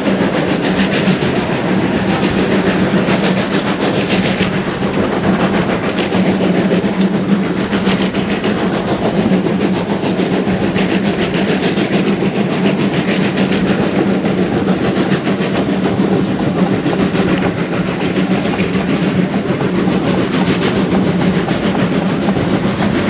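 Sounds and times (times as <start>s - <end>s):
carriage rumbling on rails: 0.0s - 23.0s
steam locomotive exhaust beats: 0.0s - 23.0s.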